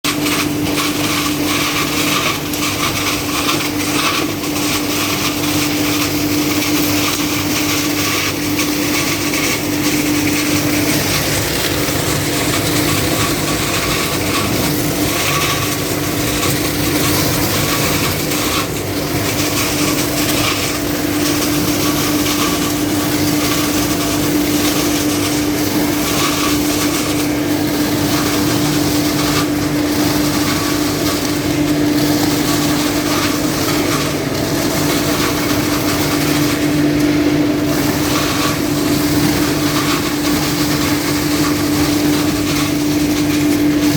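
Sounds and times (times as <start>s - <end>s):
leaf vacuum blower droning: 0.0s - 43.9s.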